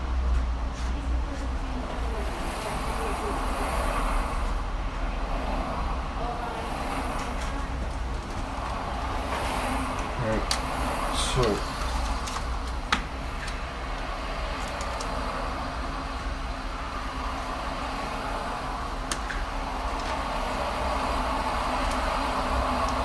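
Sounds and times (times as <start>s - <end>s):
motorway traffic noise: 0.0s - 23.0s.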